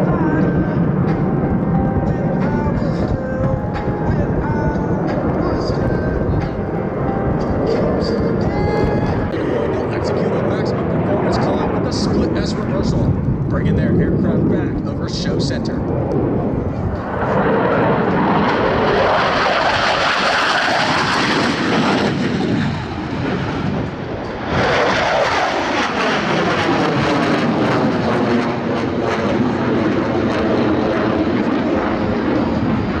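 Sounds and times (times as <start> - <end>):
jet engines roaring: 0.0 - 33.0
jets passing with whoosh: 4.9 - 33.0.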